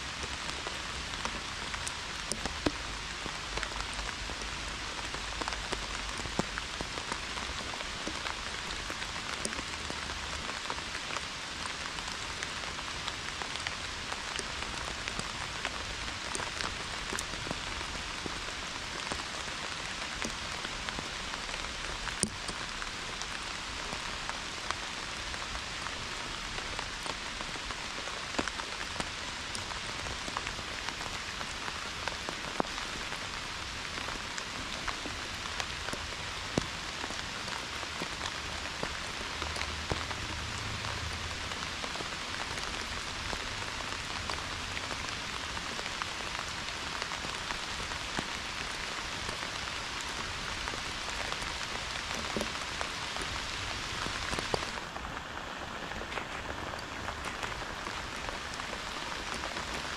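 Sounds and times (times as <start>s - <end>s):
pouring rain hissing: 0.0s - 59.9s
sharp ticks of raindrops: 0.0s - 59.9s.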